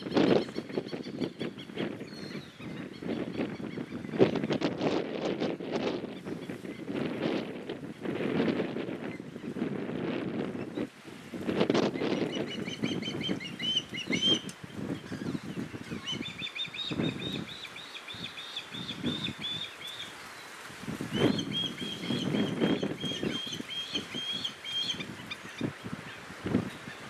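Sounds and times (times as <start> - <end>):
wind rumbling on microphone: 0.0 - 20.0, 20.6 - 27.0.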